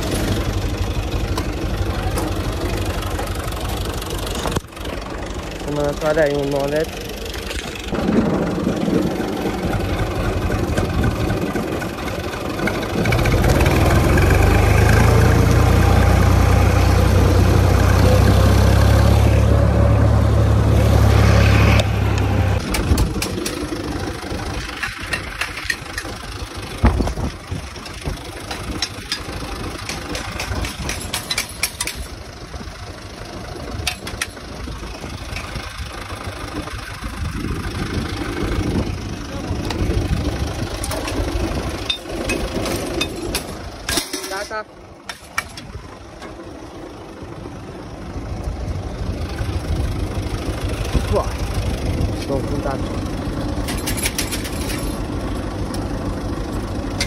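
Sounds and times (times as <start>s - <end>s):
engine clicks and knocks: 0.0s - 15.1s, 22.6s - 47.4s, 48.0s - 57.0s
diesel tractor engine rumbling: 0.0s - 57.0s.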